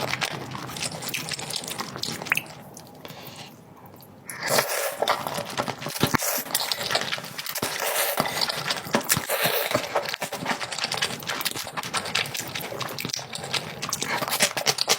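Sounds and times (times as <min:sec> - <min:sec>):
person chewing and lip-smacking: 0:00.0 - 0:14.9.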